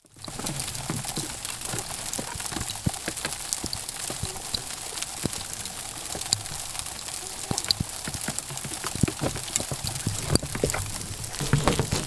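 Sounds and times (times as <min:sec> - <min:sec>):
freezing rain pattering: 0:00.0 - 0:12.0
steady hiss: 0:00.0 - 0:12.0.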